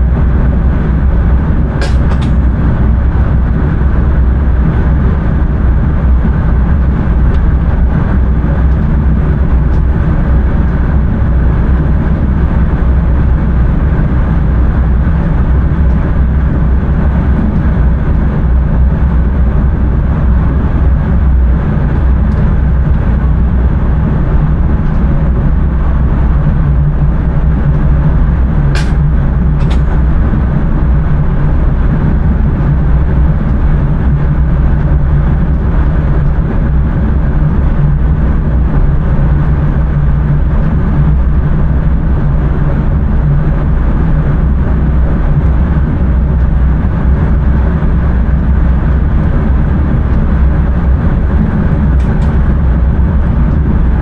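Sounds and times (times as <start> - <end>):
train running at speed: 0.0 - 54.0.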